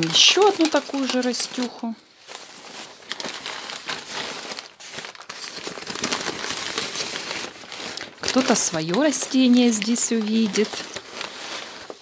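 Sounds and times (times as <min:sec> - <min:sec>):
wrapping paper crinkling: 0:00.0 - 0:12.0.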